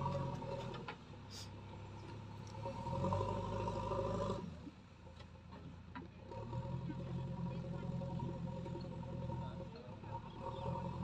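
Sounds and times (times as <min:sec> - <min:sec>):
diesel engine running under load: 0:00.0 - 0:05.0, 0:05.8 - 0:11.0.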